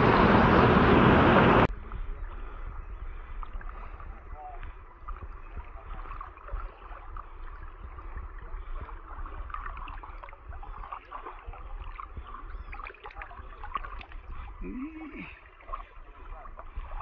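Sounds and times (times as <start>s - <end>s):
steady low rumble: 0.0s - 17.0s
floodwater sloshing and splashing: 1.6s - 17.0s.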